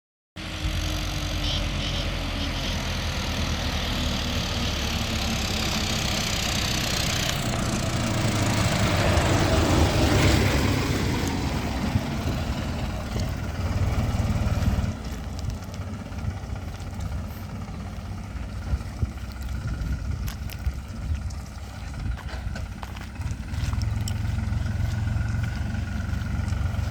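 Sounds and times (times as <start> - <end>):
diesel tractor engine running: 0.4 - 26.9.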